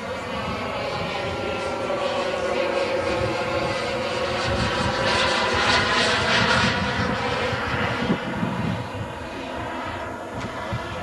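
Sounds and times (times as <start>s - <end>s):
model jet turbine whining: 0.0s - 11.0s.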